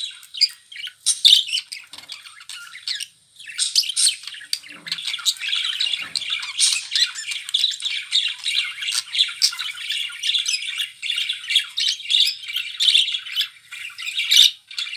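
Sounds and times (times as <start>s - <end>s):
budgerigars chattering and squawking: 0.0s - 14.9s.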